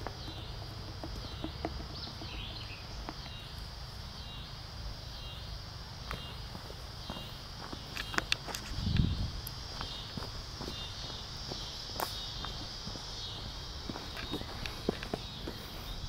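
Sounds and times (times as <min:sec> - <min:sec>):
insects buzzing: 0:00.0 - 0:16.0
low steady rumble: 0:00.0 - 0:16.0.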